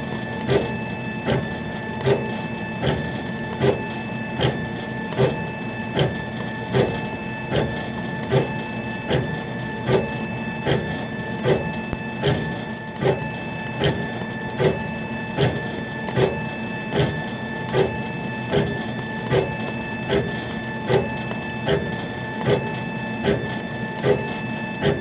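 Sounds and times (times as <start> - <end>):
laser engraver motor hum: 0.0 - 25.0
machine pulse: 0.0 - 25.0.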